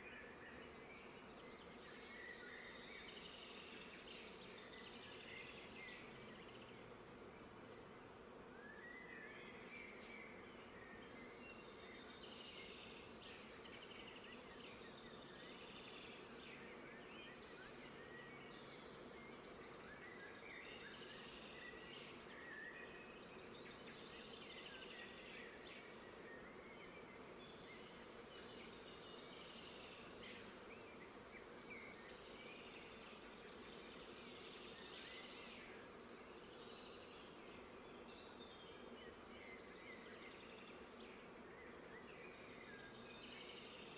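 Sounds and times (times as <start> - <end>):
small birds chirping and trilling: 0.0 - 43.9.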